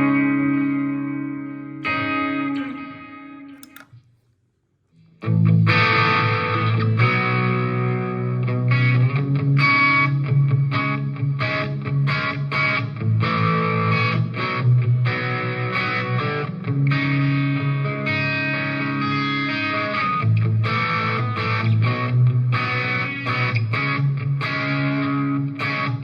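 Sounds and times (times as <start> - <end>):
distorted electric guitar: 0.0 - 3.9, 5.2 - 26.0.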